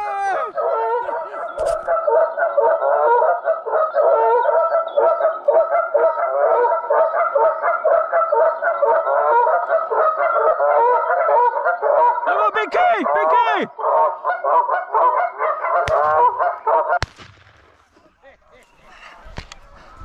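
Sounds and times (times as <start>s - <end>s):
geese honking: 0.0s - 17.0s, 17.9s - 20.0s.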